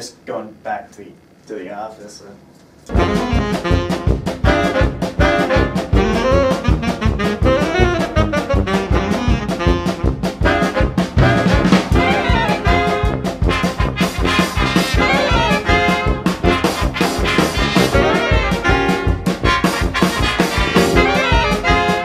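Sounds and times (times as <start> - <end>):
upbeat jazz with brass horns: 2.9 - 22.0.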